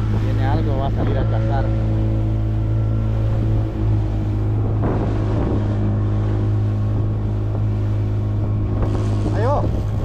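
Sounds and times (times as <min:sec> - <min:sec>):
outboard motor running: 0:00.0 - 0:10.0
water rushing along hull: 0:00.0 - 0:10.0.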